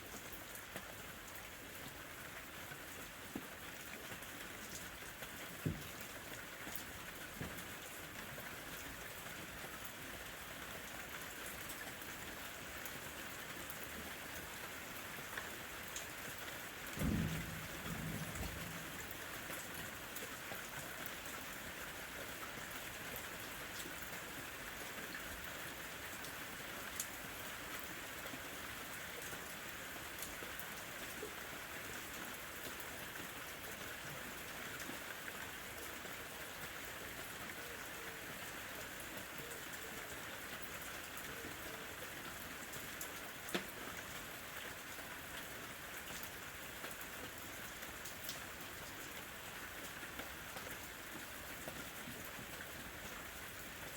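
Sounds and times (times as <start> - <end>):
gentle rain falling: 0.0 - 53.9.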